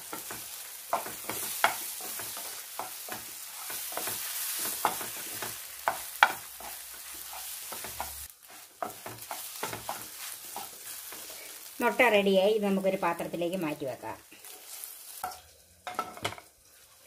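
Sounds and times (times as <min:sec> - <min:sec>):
eggs sizzling in a pan: 0:00.0 - 0:17.0
wooden spatula scraping a pan: 0:00.2 - 0:11.7, 0:14.4 - 0:17.0.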